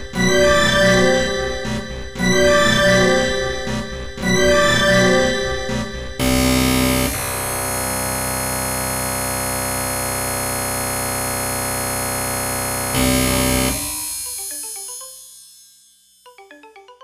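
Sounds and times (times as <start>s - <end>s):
synthesized midi ringtone: 0.2s - 15.2s.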